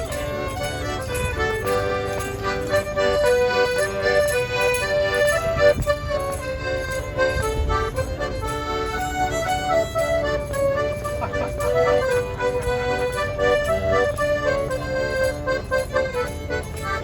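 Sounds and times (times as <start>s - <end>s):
accordion tune: 0.0s - 17.0s.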